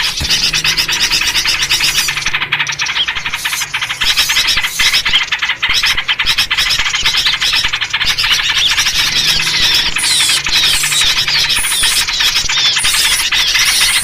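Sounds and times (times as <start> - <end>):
small birds chattering and chirping: 0.0 - 14.0.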